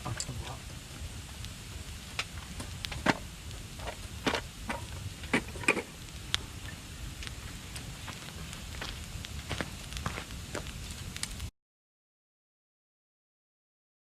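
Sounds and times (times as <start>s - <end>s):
low steady rumble: 0.0s - 11.5s
wood fire crackling: 0.0s - 11.5s.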